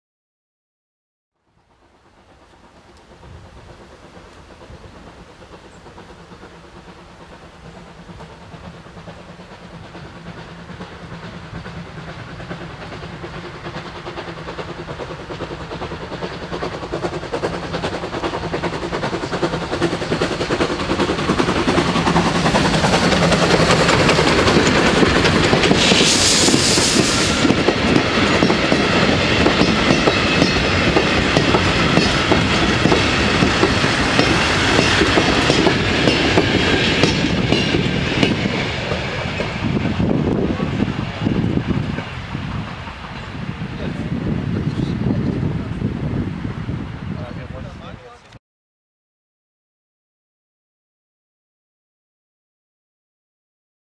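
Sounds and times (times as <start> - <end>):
steam train passing: 1.4 - 48.4
loud steam hiss: 1.7 - 48.2.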